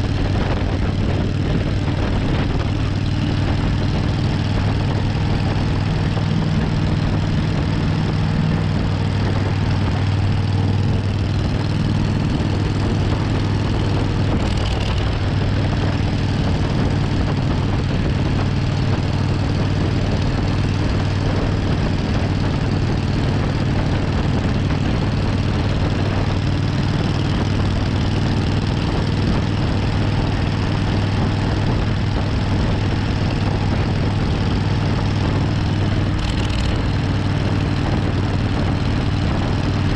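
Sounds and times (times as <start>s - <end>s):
motorcycle engine drone: 0.0s - 39.9s
rush of noise: 0.0s - 39.9s.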